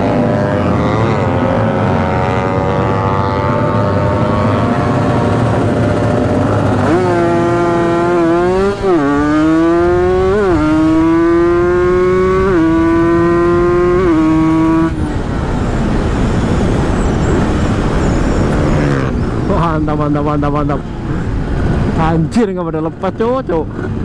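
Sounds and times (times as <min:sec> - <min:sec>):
motorcycle engine accelerating: 0:00.0 - 0:20.0
road noise: 0:00.0 - 0:24.0
wind noise: 0:00.0 - 0:24.0.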